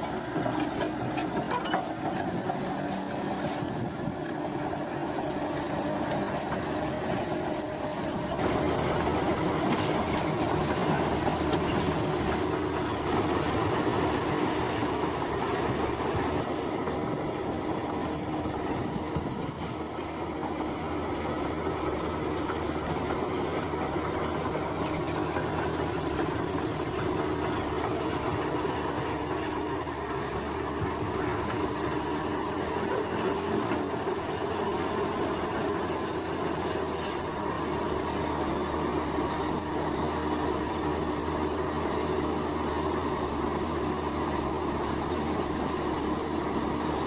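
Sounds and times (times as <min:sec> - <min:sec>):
diesel engine: 0:00.0 - 0:47.0
steel tracks squealing and clattering: 0:00.0 - 0:47.0.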